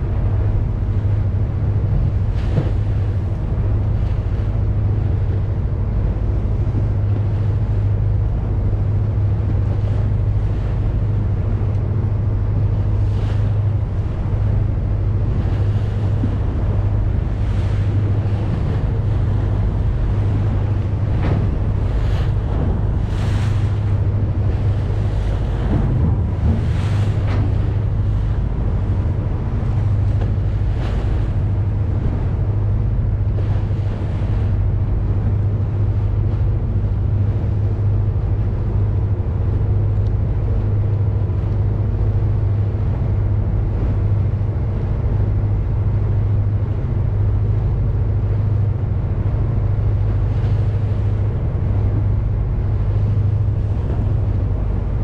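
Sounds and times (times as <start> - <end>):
boat engine droning: 0.0 - 55.0
rushing water: 0.0 - 55.0
water swishes: 0.0 - 55.0
wind: 0.0 - 55.0.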